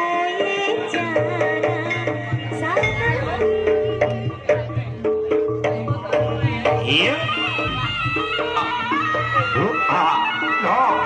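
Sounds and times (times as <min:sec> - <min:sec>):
music with sliding melody and bass: 0:00.0 - 0:11.0.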